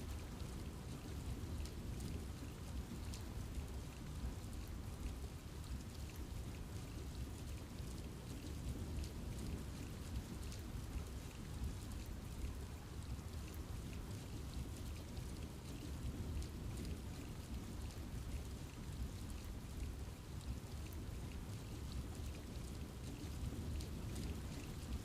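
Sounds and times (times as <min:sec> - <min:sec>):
raindrops pattering on leaves: 0:00.0 - 0:25.0.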